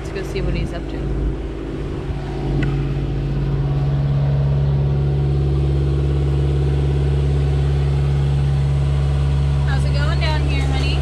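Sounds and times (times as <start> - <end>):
diesel boat engine droning: 0.0 - 11.0.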